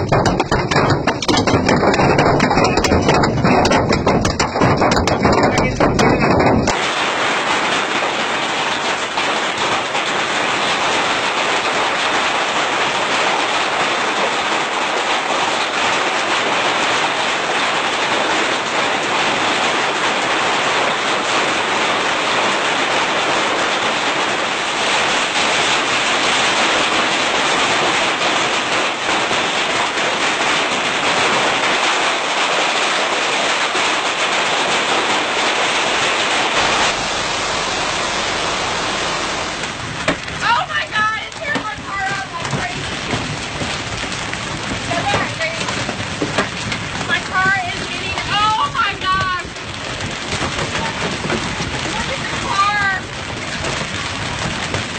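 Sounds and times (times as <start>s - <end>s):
hailstones clattering: 0.0s - 54.9s
heavy rain: 0.0s - 54.9s.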